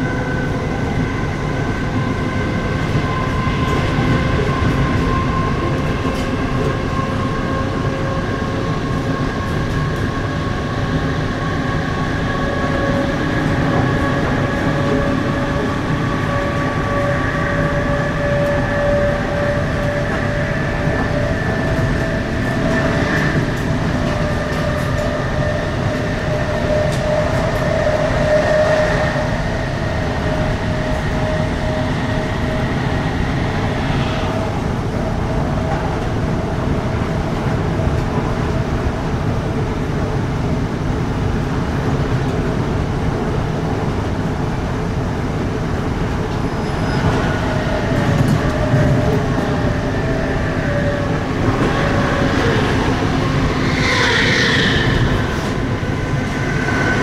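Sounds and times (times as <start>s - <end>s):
passing train rushing: 0.0s - 57.0s
steady train whine: 0.0s - 57.0s.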